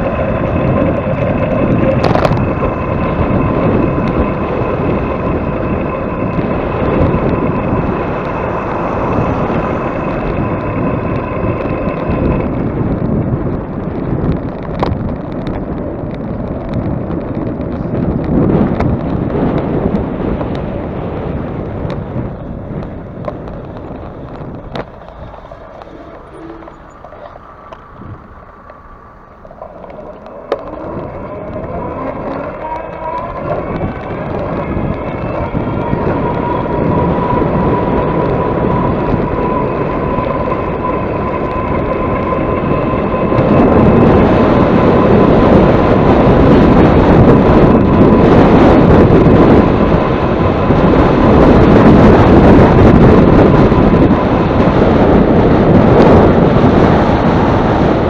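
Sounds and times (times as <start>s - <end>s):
ride whine: 0.0s - 58.0s
wind noise on microphone: 0.0s - 58.0s.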